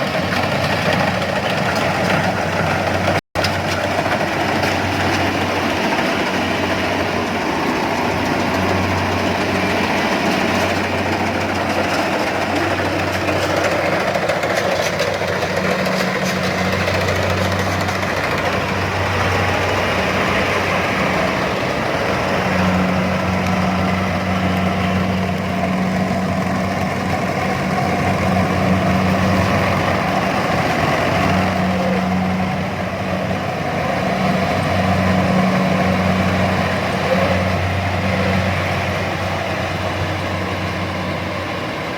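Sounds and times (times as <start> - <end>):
machine engine humming: 0.0 - 41.9.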